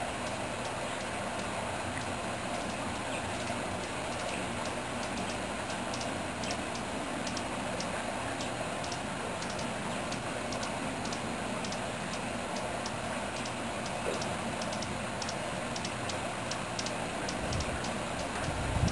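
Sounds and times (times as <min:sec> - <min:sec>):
nestlings begging chips: 0:00.2 - 0:18.6.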